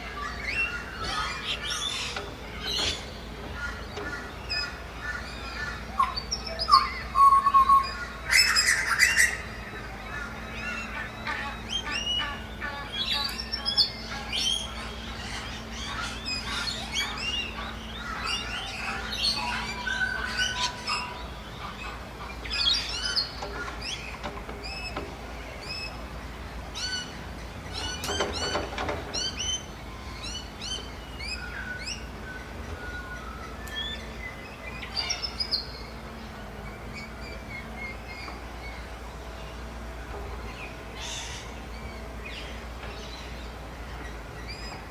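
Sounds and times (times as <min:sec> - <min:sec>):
outdoor background noise: 0:00.0 - 0:44.9
songbirds chirping: 0:00.0 - 0:44.9.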